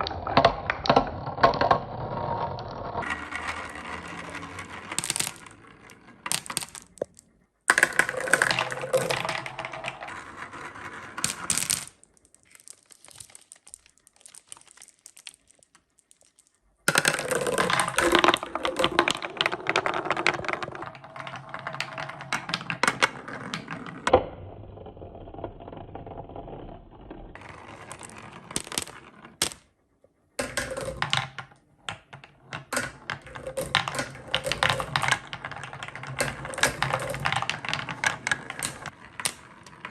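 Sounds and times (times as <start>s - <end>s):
marbles clattering down wooden run: 0.0s - 24.2s, 25.0s - 29.6s, 30.4s - 39.9s.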